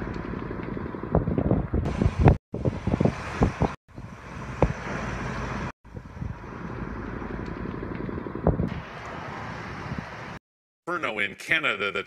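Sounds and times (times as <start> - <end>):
aircraft engine and wind noise: 0.0 - 10.4.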